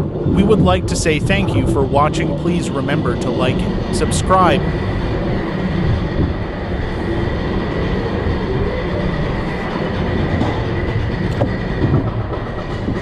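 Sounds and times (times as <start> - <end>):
high whine: 0.0 - 13.0
roller coaster rolling rattle: 0.0 - 13.0.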